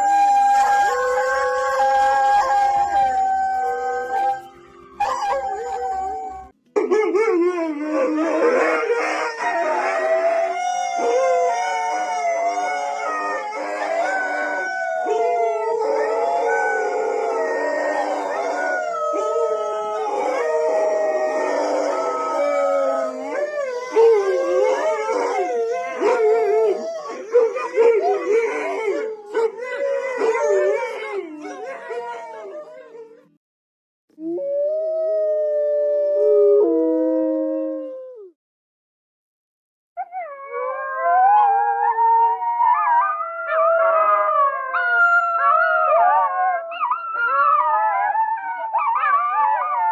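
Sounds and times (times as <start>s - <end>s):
dogs howling in chorus: 0.0s - 33.2s, 34.2s - 38.4s, 40.0s - 49.9s.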